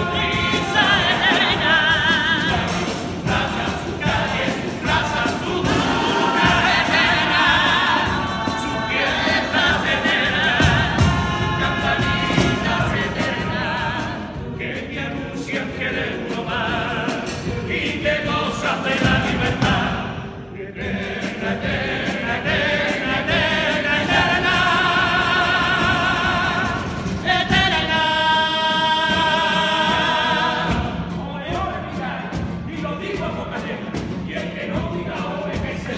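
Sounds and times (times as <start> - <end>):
guitar accompaniment: 0.0 - 35.9
male choir singing: 0.0 - 35.9.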